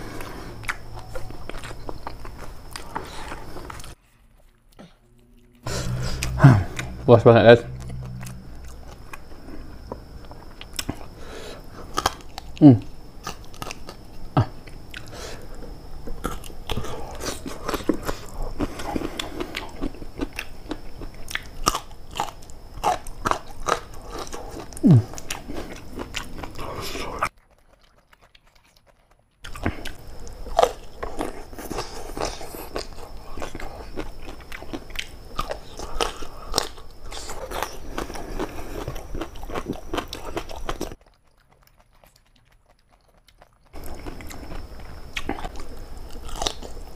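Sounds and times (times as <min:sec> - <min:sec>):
biting and chewing: 0:00.0 - 0:07.0, 0:08.3 - 0:46.9.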